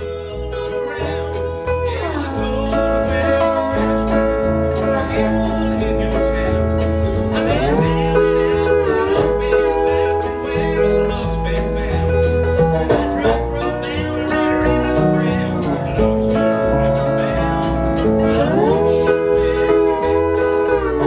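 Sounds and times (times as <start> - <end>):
slide lap steel guitar: 0.0 - 21.0
stepping bass line: 0.0 - 21.0.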